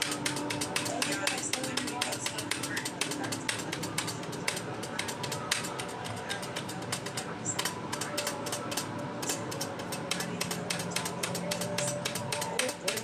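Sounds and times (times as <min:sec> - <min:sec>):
computer keyboard typing: 0:00.0 - 0:13.0.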